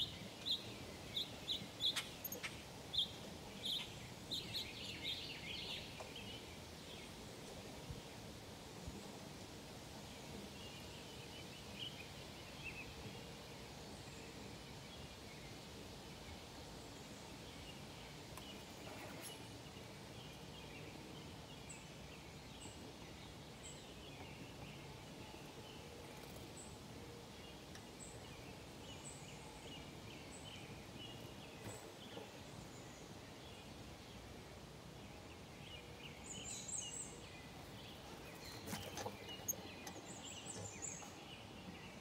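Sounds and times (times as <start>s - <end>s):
outdoor background hiss: 0.0s - 42.0s
songbirds chirping: 0.0s - 42.0s.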